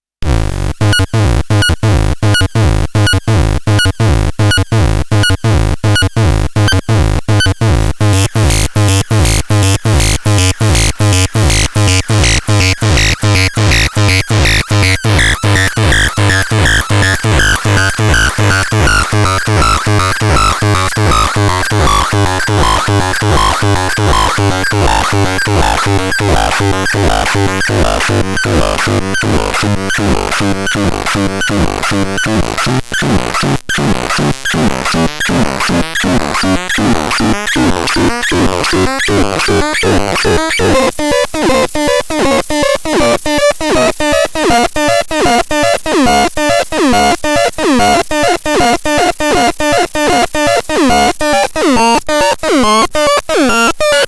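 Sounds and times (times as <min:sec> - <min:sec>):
synthesizer sequenced pattern: 0:00.5 - 0:54.0.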